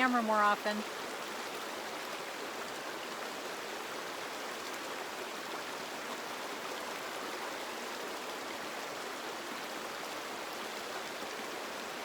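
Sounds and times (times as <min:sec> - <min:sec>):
stream burbling over rocks: 0:00.0 - 0:12.0.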